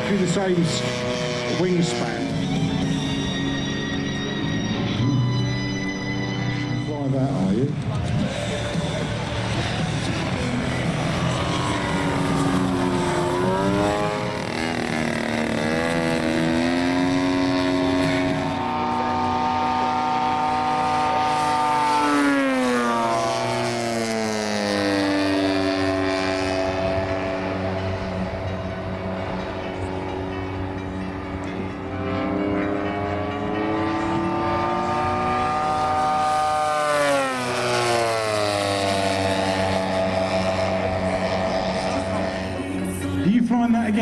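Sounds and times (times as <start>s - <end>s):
model airplane propeller drone: 0.0s - 43.4s.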